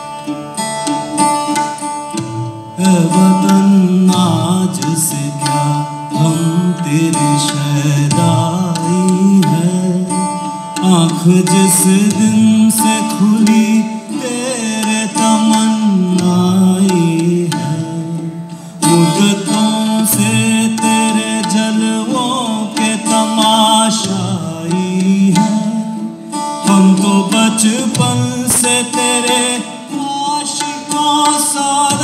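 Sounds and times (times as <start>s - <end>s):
plucked string instrument: 0.0s - 32.0s
tabla: 0.0s - 32.0s
man singing long held notes: 2.8s - 32.0s.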